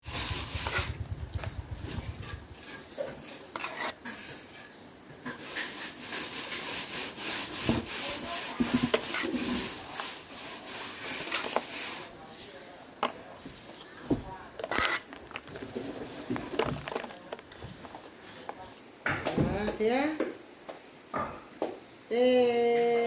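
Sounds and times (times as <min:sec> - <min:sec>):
hand tool scraping wood: 0:00.0 - 0:18.8.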